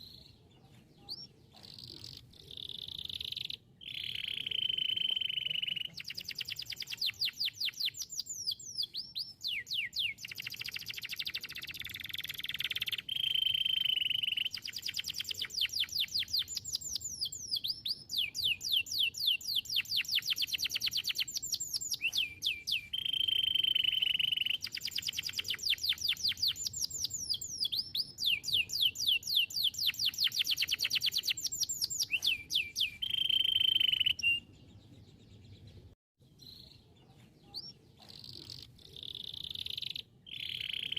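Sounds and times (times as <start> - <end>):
canary trilling song: 0.0 - 40.9.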